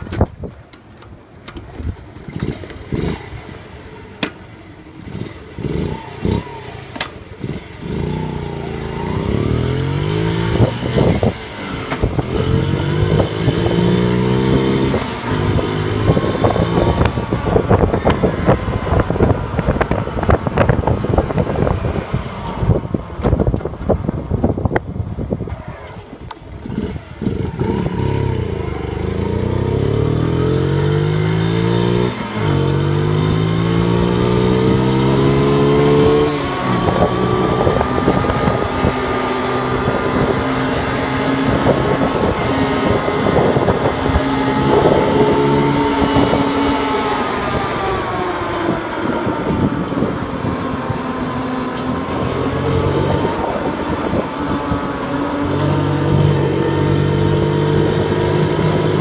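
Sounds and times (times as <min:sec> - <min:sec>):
small motorcycle engine accelerating: 0:01.6 - 0:24.8, 0:25.4 - 0:59.0
wind buffeting microphone: 0:05.0 - 0:59.0.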